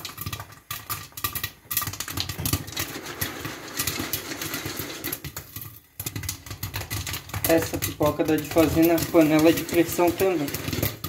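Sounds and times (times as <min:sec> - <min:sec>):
popcorn popping in a pot: 0:00.0 - 0:11.0
popcorn rattling against pot lid: 0:00.0 - 0:11.0.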